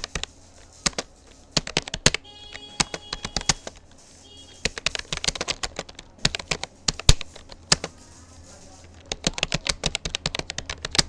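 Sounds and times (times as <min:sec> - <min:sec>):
keyboard keys clicking: 0:00.0 - 0:11.0.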